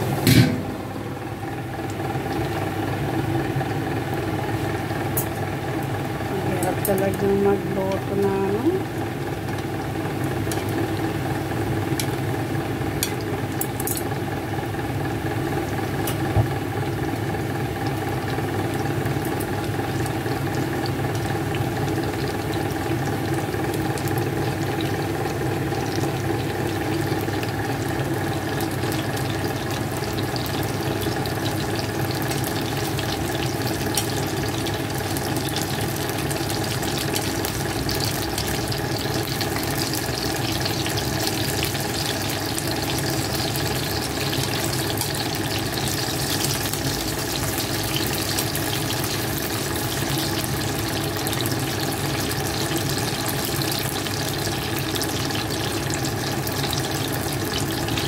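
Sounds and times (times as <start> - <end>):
eggplant sizzling in oil: 0.0 - 58.0
low mechanical hum: 0.0 - 58.0.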